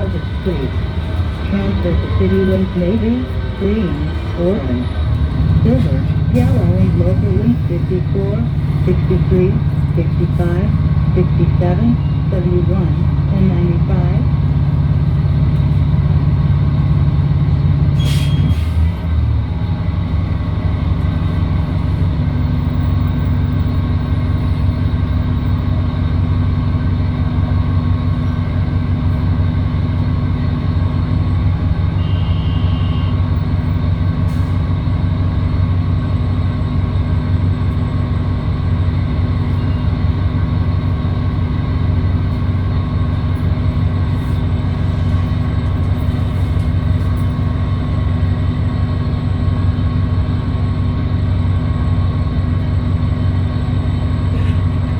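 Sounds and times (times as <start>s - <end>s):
bus engine droning: 0.0s - 54.9s.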